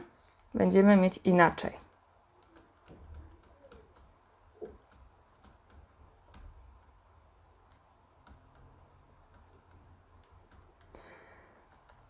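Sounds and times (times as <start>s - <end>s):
faint low hum: 0.0s - 12.0s
pen tapping drawing tablet: 1.8s - 12.0s.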